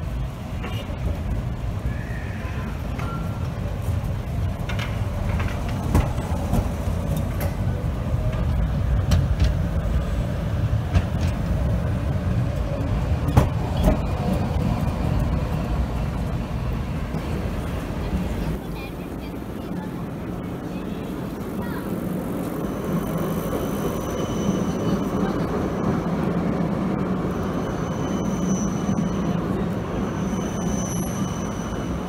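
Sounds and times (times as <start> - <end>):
sharp clacks of tram wheels: 0.0 - 32.0
tram wheels rumbling on rail: 0.0 - 32.0.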